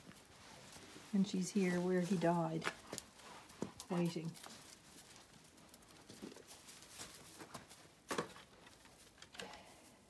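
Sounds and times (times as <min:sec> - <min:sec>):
light puppy footsteps: 0:00.0 - 0:09.3
straw and hay rustling: 0:00.0 - 0:09.9.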